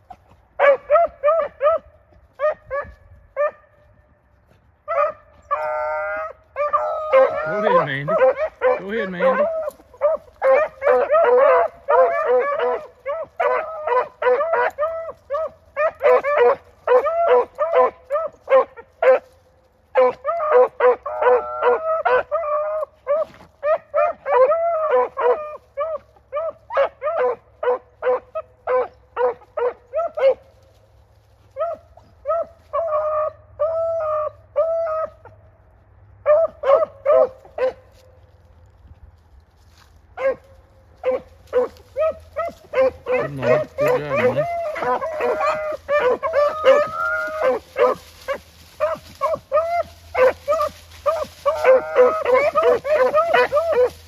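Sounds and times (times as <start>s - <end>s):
hounds baying: 0.0s - 35.6s, 36.2s - 38.6s, 39.7s - 54.0s.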